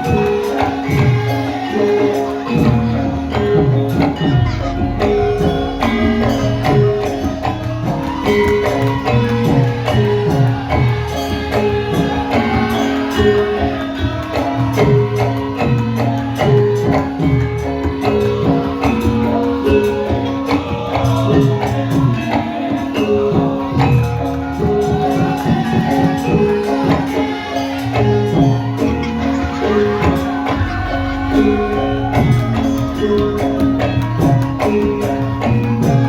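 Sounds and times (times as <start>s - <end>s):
drum strokes: 0.0s - 24.0s, 24.7s - 36.0s
jingling percussion: 0.0s - 36.0s
pitched metallic notes: 0.0s - 36.0s.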